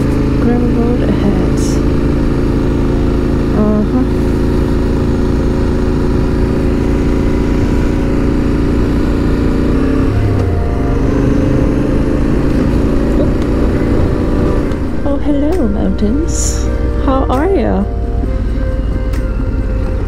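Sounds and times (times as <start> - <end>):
rushing noise: 0.0 - 17.3
motorcycle engine running: 0.0 - 20.0.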